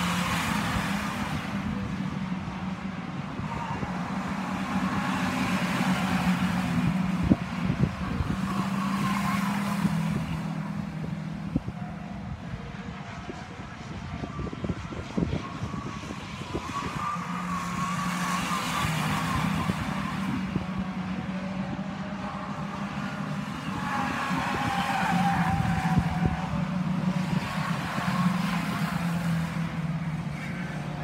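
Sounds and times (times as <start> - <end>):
stock car engines passing: 0.0 - 31.0.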